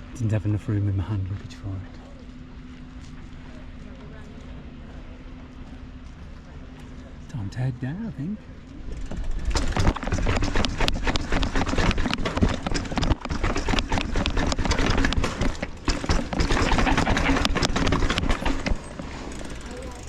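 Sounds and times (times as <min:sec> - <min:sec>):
mountain bike rattling over rough ground: 0:01.9 - 0:07.3, 0:08.4 - 0:20.0.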